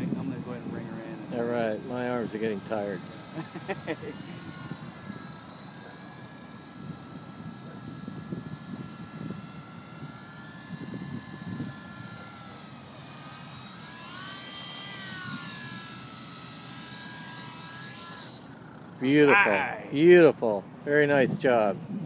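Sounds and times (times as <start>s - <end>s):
rc helicopter rotor whining: 0.0s - 22.0s.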